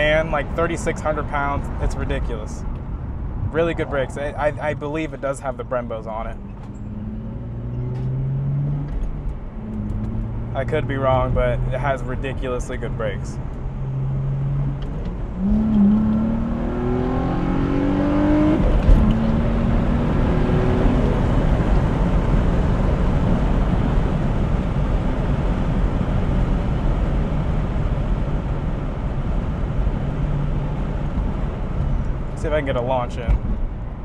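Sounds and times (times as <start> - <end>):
road and wind noise: 0.0 - 34.0
car engine accelerating: 0.1 - 34.0.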